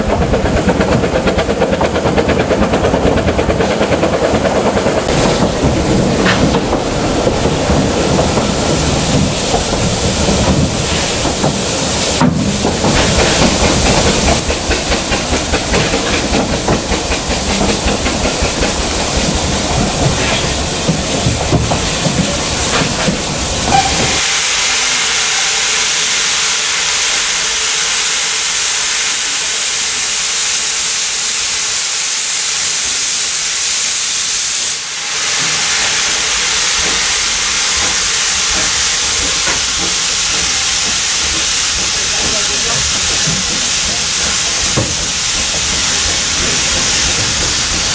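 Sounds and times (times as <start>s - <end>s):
steam locomotive running: 0.0s - 47.9s
hiss of escaping steam: 5.0s - 47.9s.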